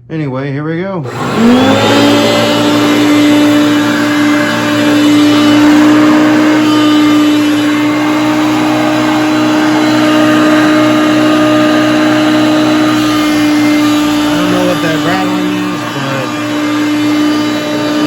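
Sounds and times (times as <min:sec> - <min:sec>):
vacuum cleaner humming: 0:01.0 - 0:18.0.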